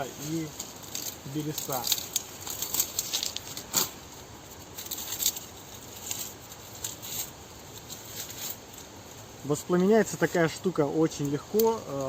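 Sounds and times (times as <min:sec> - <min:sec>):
birch bark crackling and rustling: 0:00.0 - 0:12.0.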